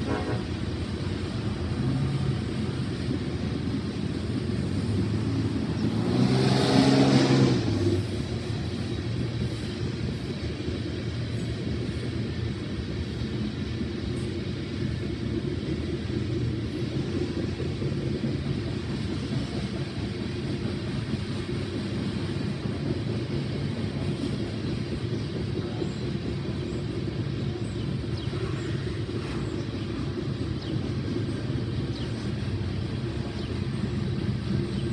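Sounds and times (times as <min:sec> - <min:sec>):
freight train cars rumbling past: 0:00.0 - 0:34.9.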